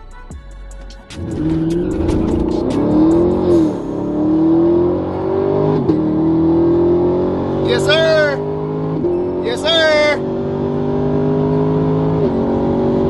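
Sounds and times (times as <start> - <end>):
race car engine at full throttle: 1.2 - 13.0.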